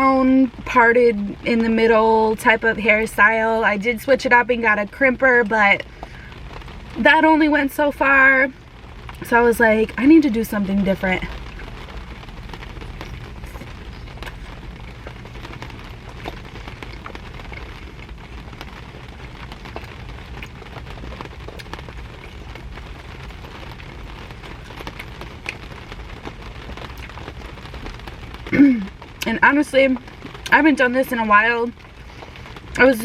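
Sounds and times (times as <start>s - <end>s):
rain on car roof and windows: 0.0s - 33.0s.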